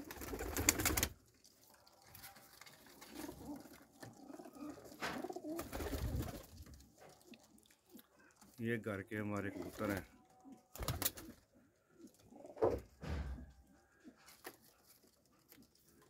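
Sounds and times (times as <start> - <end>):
pigeons cooing softly: 0.0 - 8.6, 9.3 - 16.0.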